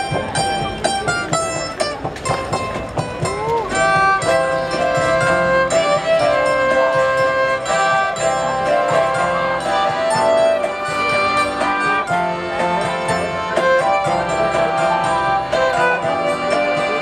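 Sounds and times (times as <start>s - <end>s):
accordion: 0.0s - 17.0s
keyboard: 0.0s - 17.0s
strummed guitar: 0.0s - 17.0s
violin: 0.0s - 17.0s.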